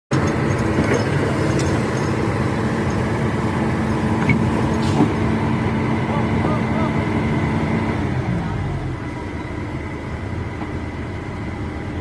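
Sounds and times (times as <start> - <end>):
diesel engine running: 0.1 - 12.0.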